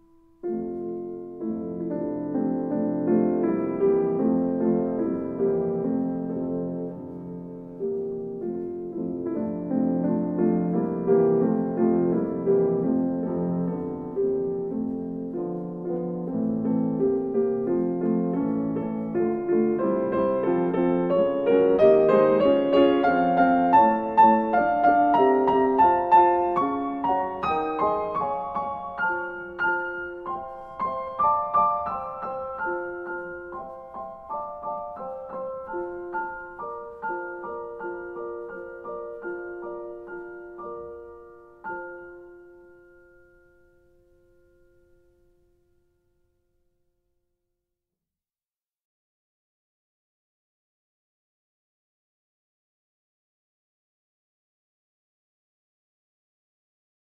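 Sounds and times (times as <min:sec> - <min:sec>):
solo piano music: 0:00.0 - 0:46.4.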